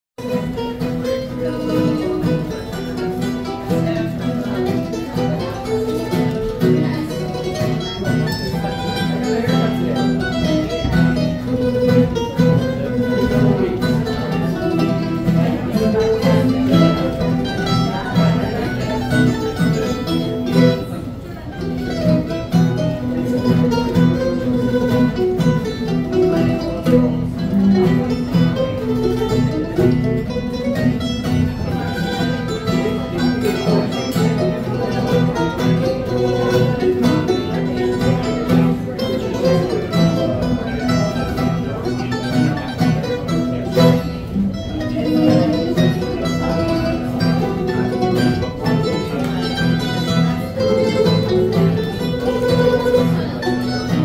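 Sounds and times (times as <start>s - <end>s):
acoustic string trio dance tune: 0.2s - 54.0s.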